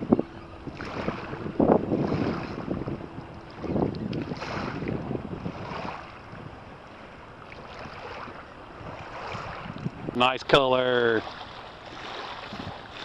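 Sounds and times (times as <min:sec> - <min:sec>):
water sloshing around kayak: 0:00.0 - 0:13.0
wind buffeting microphone: 0:00.0 - 0:13.0.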